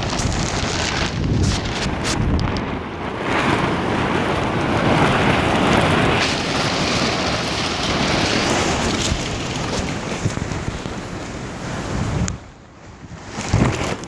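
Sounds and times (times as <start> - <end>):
wind gusting hard: 0.0 - 14.0.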